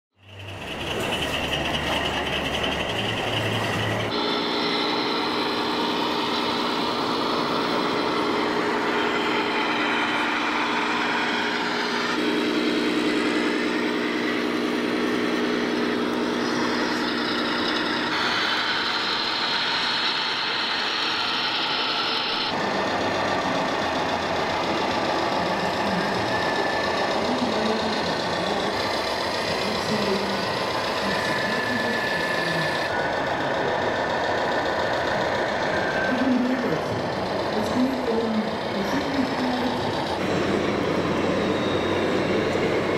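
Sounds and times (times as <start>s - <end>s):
droning model engine sounds: 0.2s - 42.9s
hall background noise: 0.3s - 42.9s
electric motor whine: 0.6s - 42.9s.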